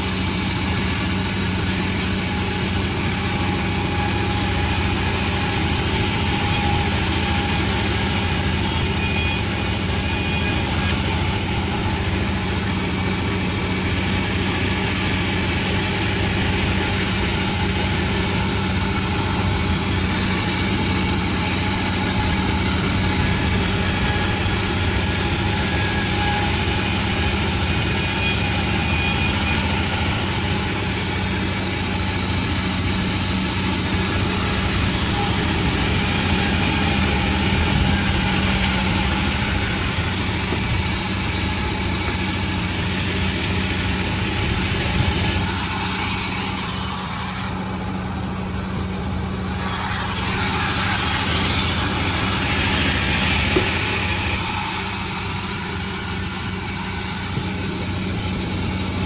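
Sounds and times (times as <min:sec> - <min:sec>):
sawmill running with low hum: 0:00.0 - 0:59.0.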